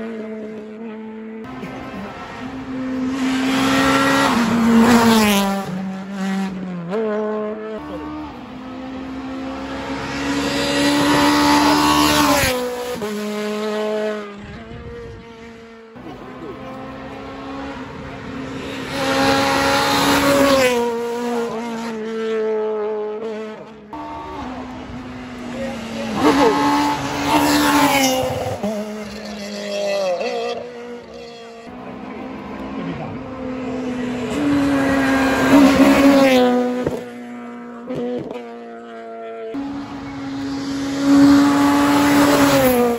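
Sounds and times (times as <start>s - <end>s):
rally cars passing at speed: 0.0s - 42.9s.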